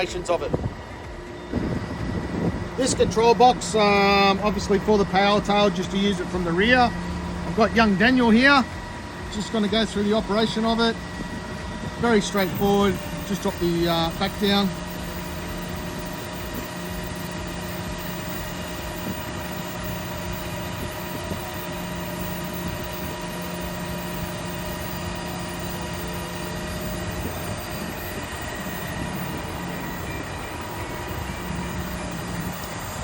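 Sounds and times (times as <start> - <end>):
hydraulic system humming: 0.0 - 33.0.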